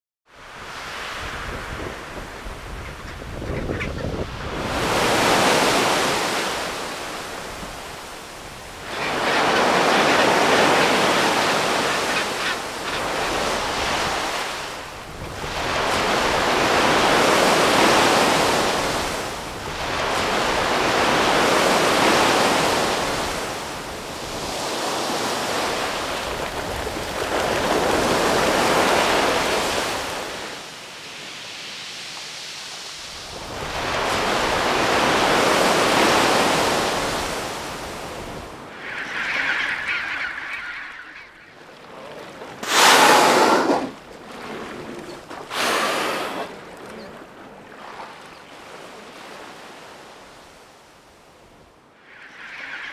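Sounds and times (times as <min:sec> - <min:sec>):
sea waves washing in: 0:00.3 - 0:02.8, 0:04.2 - 0:52.9.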